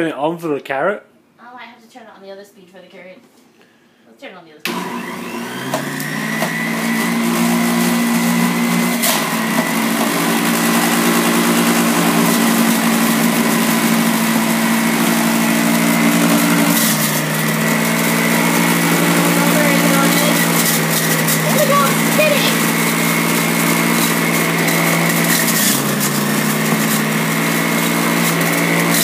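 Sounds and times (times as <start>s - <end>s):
juicer motor whining: 4.7s - 29.0s.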